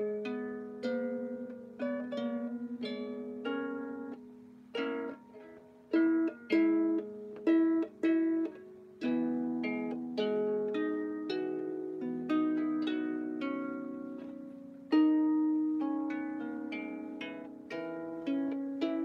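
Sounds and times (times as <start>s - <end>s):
harp being plucked: 0.0s - 19.0s.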